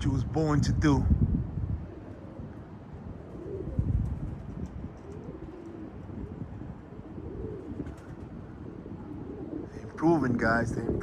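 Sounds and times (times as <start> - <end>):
pigeons cooing: 1.7 - 11.0.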